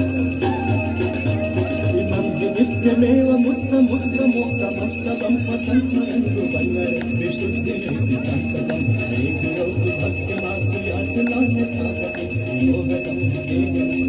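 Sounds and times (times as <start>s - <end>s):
bells ringing: 0.0s - 14.0s.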